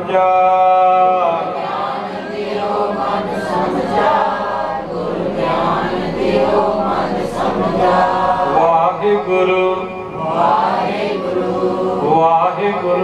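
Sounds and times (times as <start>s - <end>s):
group chanting a hymn: 0.0s - 13.0s.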